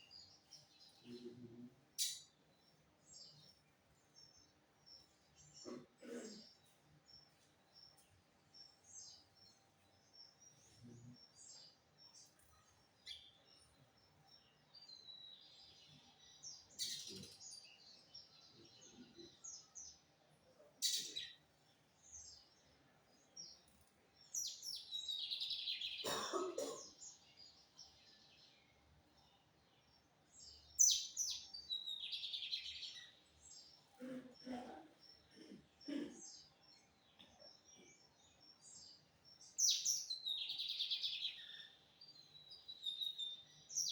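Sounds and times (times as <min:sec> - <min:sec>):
small bird chirping and singing: 0:02.0 - 0:05.6, 0:06.6 - 0:20.2, 0:20.8 - 0:26.1, 0:27.0 - 0:34.0, 0:36.2 - 0:43.9.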